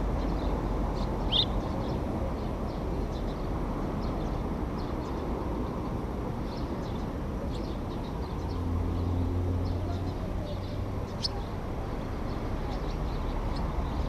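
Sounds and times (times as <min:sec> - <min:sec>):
swifts calling: 0:00.0 - 0:14.0.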